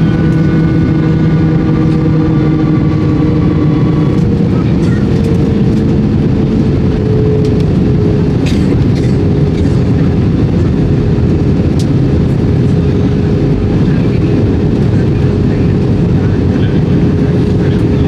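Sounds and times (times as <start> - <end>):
airplane cabin rumble: 0.0 - 18.0
constant cabin hum: 0.0 - 18.0.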